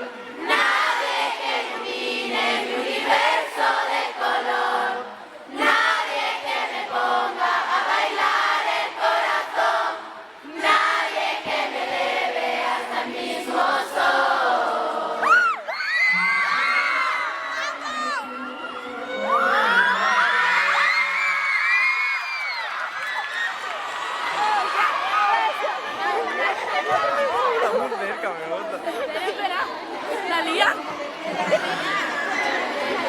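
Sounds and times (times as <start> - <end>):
crowd singing in unison: 0.0 - 20.8, 25.7 - 33.0.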